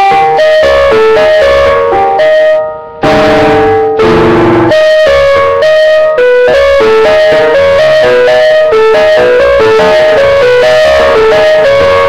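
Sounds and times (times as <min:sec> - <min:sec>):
electronic keyboard melody: 0:00.0 - 0:12.0.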